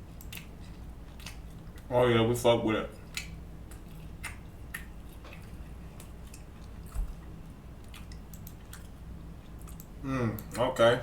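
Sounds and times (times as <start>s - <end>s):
person chewing food: 0.2s - 1.9s, 3.0s - 10.5s.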